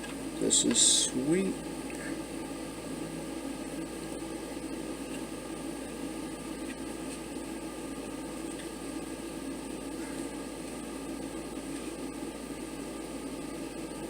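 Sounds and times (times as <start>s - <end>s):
steady background hum and hiss: 0.0s - 14.0s.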